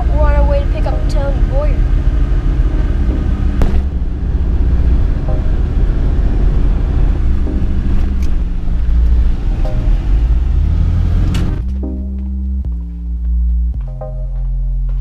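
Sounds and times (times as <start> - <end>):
car cabin road rumble: 0.0 - 13.9.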